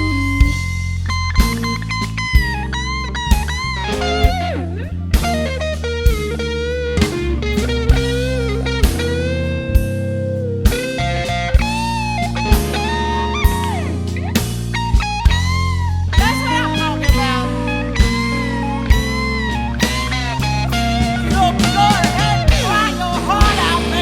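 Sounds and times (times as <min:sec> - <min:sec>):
bass: 0:00.0 - 0:24.0
electric guitar solo: 0:00.0 - 0:24.0
steady drum beat: 0:00.0 - 0:24.0.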